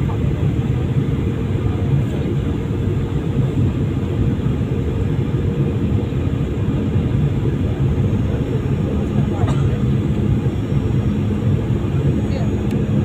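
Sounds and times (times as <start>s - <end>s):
jet engine cabin noise: 0.0s - 13.0s.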